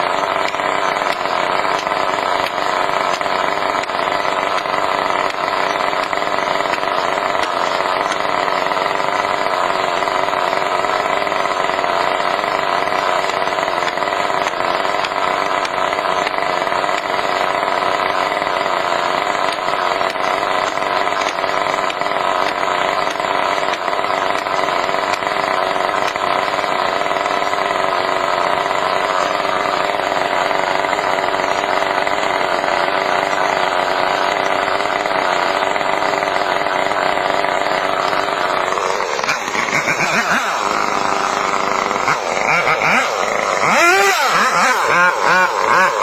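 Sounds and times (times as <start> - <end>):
chainsaw engine running: 0.0 - 46.0.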